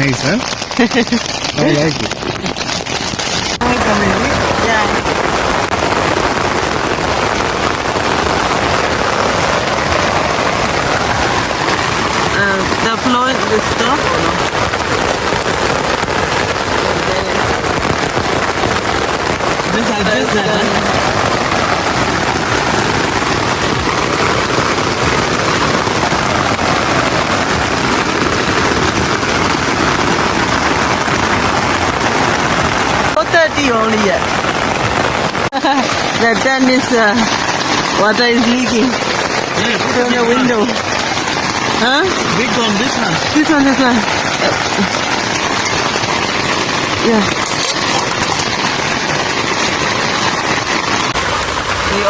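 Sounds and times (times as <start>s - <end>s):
heavy rain on a tent: 0.0s - 52.0s.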